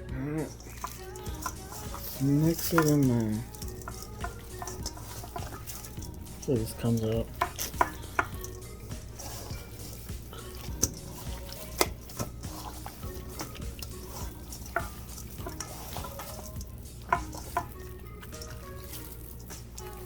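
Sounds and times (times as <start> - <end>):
utensil stirring chicken: 0.0 - 20.0.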